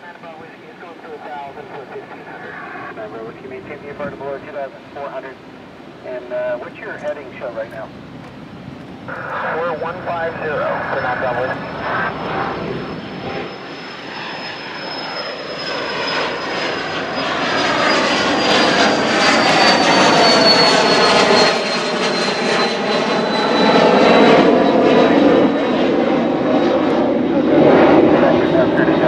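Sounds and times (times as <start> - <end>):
high engine whine falling in pitch: 0.0 - 26.1
jet engines roaring at takeoff: 0.0 - 29.0.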